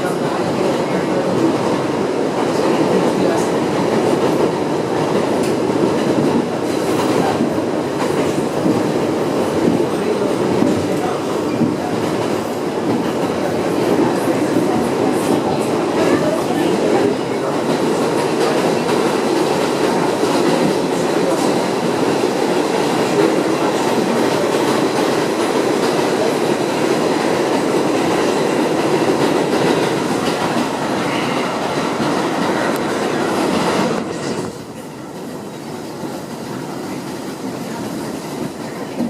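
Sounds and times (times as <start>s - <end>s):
subway car wheels rumbling on rails: 0.0s - 39.0s.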